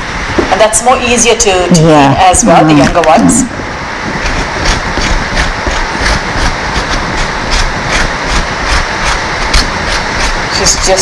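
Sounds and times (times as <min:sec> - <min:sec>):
loud steady hiss: 0:00.0 - 0:11.0.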